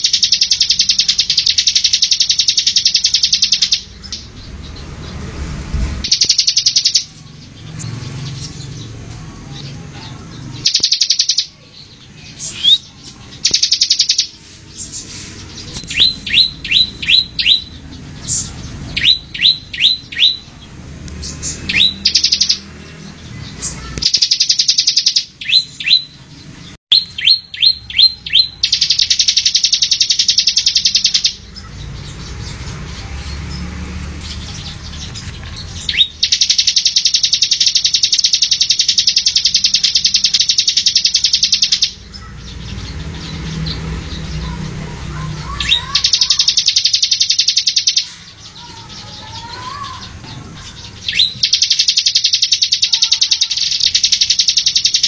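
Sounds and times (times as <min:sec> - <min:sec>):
bird buzzy rattling trills: 0:00.0 - 0:09.0, 0:09.6 - 0:55.0
bird sharp downward notes: 0:00.0 - 0:09.0, 0:10.4 - 0:33.6, 0:34.2 - 0:55.0.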